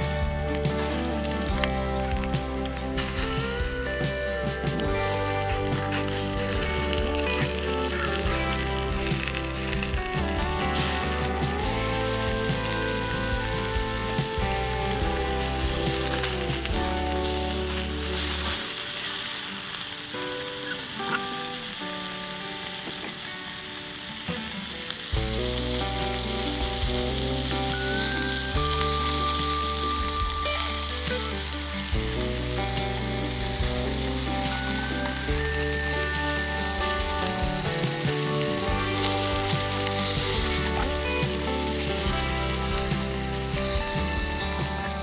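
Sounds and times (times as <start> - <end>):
background music: 0.0 - 45.0
beef sizzling in a pan: 0.0 - 45.0.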